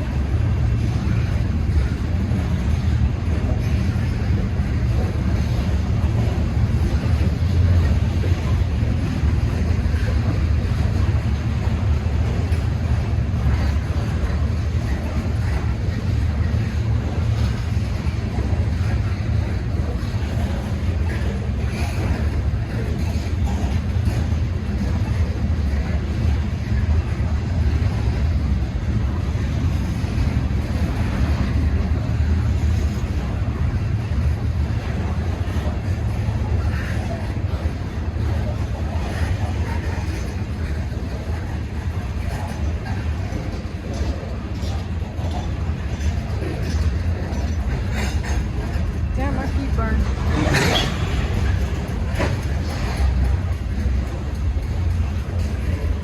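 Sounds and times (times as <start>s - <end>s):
low rumble: 0.0s - 56.0s
train rolling by: 0.0s - 56.0s.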